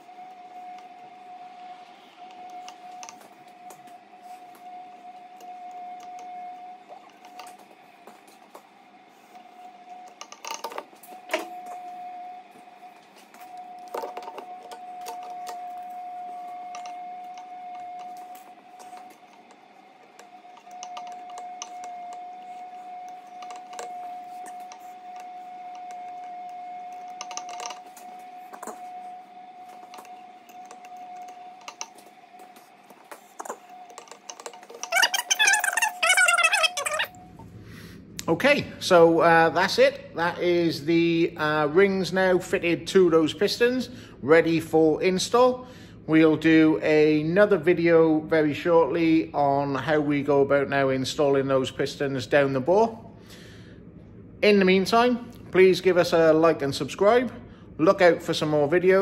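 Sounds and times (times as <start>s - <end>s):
high-pitched hum: 0.0s - 59.0s.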